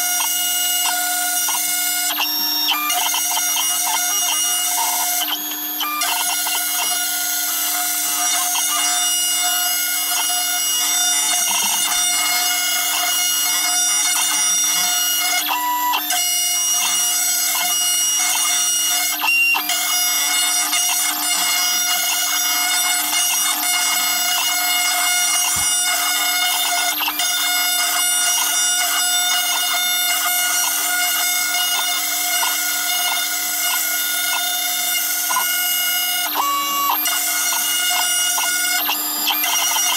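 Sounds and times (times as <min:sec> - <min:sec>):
router spindle droning: 0:00.0 - 0:39.9.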